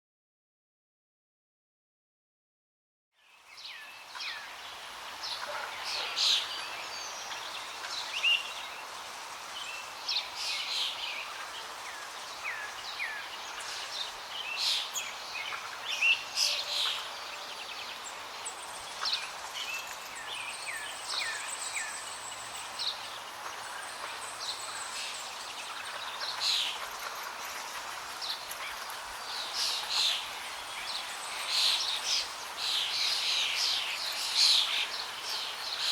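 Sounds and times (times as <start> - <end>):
birds chirping: 3.2 - 35.9.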